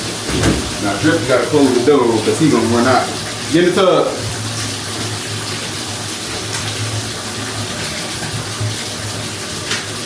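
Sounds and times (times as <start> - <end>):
water running into bathtub: 0.0 - 10.0.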